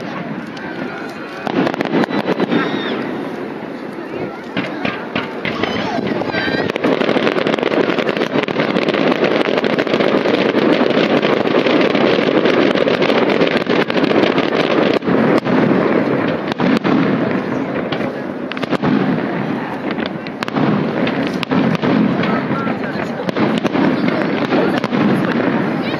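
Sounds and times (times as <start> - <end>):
fireworks booming and cracking: 0.0 - 25.9.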